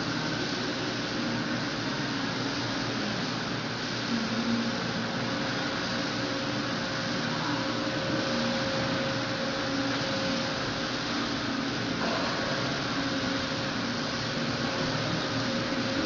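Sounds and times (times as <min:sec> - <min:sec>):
faint hum: 0:00.0 - 0:16.0
welding arc hissing: 0:00.0 - 0:16.0.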